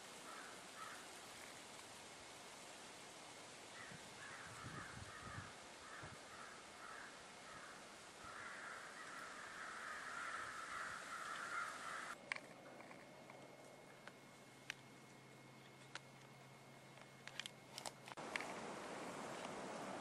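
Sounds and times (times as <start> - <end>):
faint distant bird calls: 0.1 - 1.6, 3.7 - 20.0.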